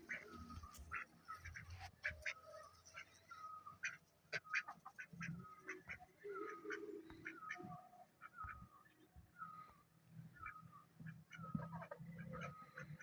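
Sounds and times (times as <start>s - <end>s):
poultry calling: 0.0s - 8.8s, 10.3s - 13.0s.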